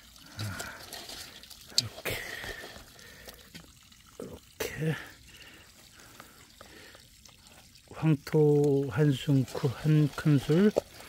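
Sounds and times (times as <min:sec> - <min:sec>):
water dripping and splashing: 0:00.0 - 0:11.0
wet squelching and sloshing: 0:00.0 - 0:11.0.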